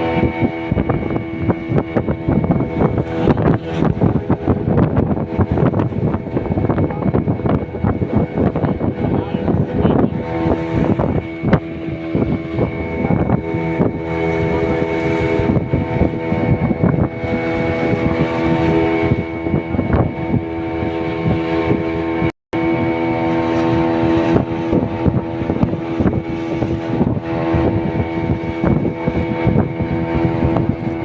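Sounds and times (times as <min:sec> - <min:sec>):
outboard motor running: 0:00.0 - 0:31.0
wind on microphone: 0:00.0 - 0:31.0.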